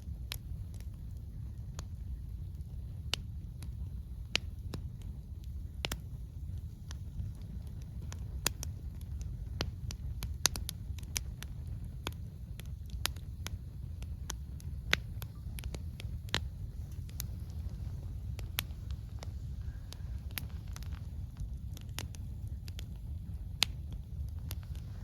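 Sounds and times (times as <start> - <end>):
campfire crackling and popping: 0.0 - 25.0
low steady rumble: 0.0 - 25.0.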